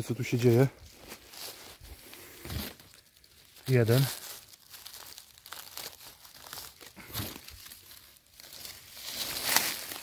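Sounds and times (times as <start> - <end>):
dry leaves rustling and crackling: 0.0 - 10.0.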